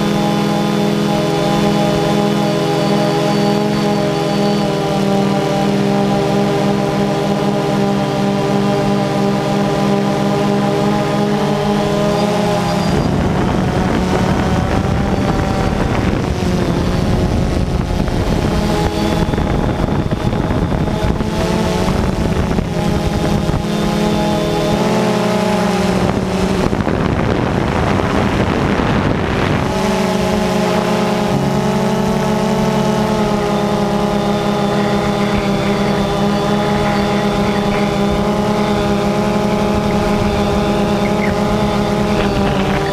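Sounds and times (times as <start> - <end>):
drone motors humming: 0.0 - 42.9
wind rush on microphone: 0.0 - 42.9.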